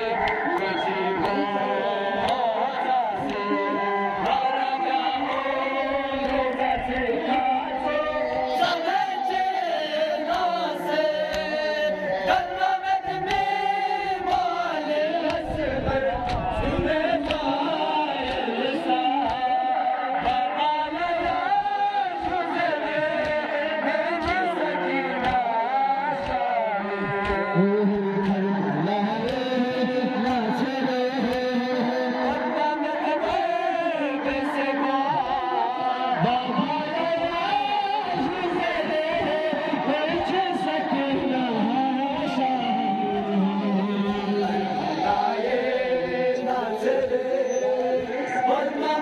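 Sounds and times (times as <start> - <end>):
men chanting in unison: 0.0 - 49.0.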